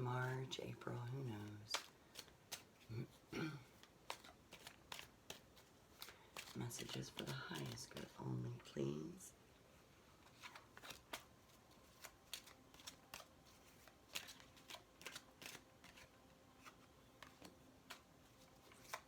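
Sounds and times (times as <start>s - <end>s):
cards being shuffled: 0.1s - 8.8s, 10.2s - 19.0s.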